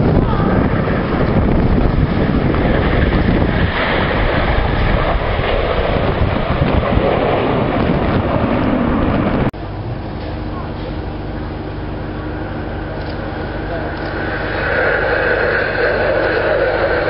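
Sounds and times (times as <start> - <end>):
jet engines roaring overhead: 0.0 - 17.0
wind buffeting microphone: 0.0 - 17.0.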